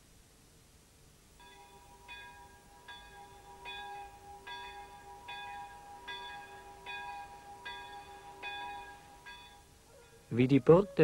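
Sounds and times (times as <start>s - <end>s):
church bell ringing: 1.4s - 10.3s.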